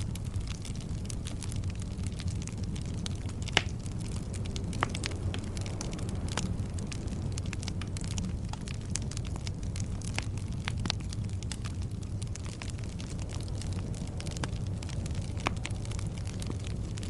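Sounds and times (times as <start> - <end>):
fire crackling: 0.0 - 17.0
fire popping: 0.0 - 17.0
low rumble of flames: 0.0 - 17.0.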